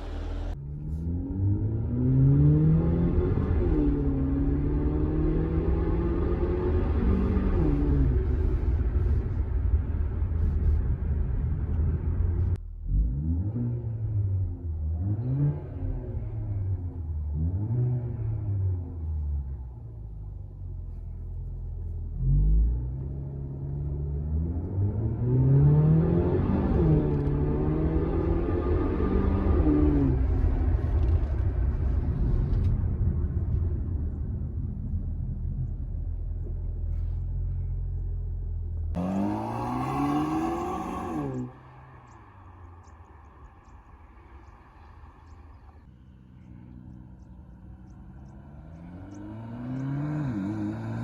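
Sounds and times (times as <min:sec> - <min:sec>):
car engine and exhaust rumbling: 0:00.0 - 0:51.0.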